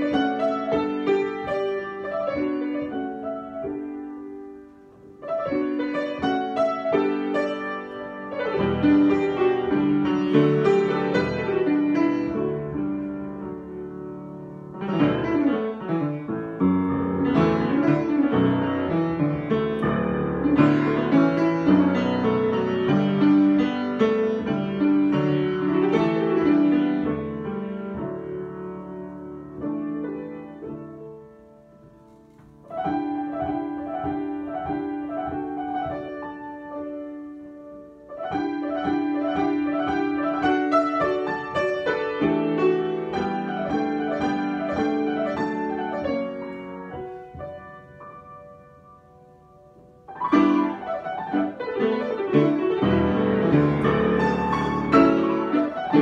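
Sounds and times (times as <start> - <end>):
solo piano playing: 0.0 - 56.0.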